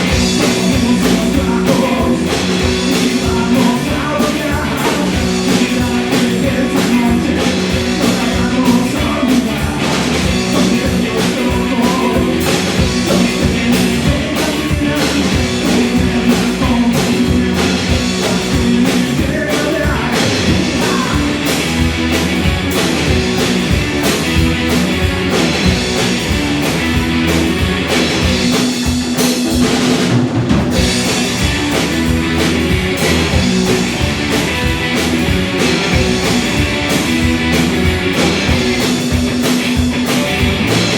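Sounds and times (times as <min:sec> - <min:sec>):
bass guitar: 0:00.0 - 0:40.9
drum kit: 0:00.0 - 0:40.9
electric guitars: 0:00.0 - 0:40.9.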